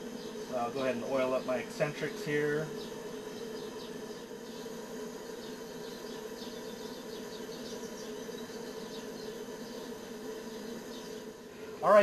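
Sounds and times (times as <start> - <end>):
boiler burner humming: 0.0 - 12.0.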